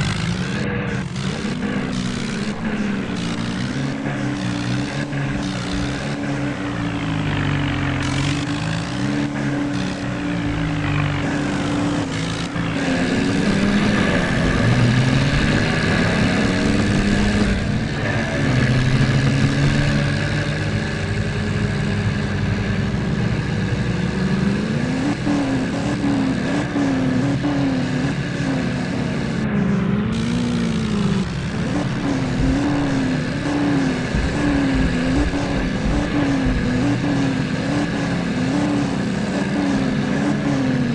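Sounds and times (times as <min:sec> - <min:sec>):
diesel tractor engines under load: 0:00.0 - 0:40.9.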